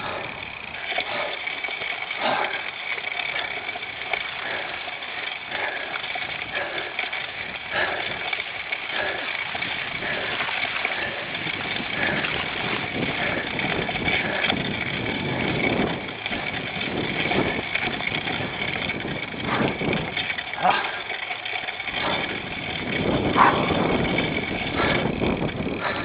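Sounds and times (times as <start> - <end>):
bike knocks and rattles: 0.0 - 26.0
bike tyres rumbling on rough ground: 0.0 - 26.0.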